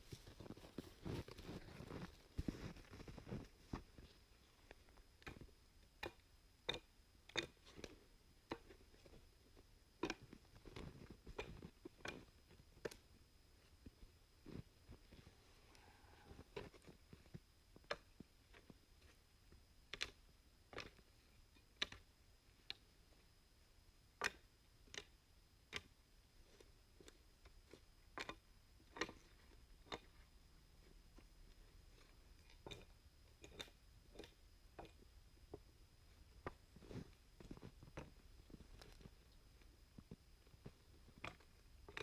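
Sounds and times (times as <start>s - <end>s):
faint background hum: 0.0s - 42.0s.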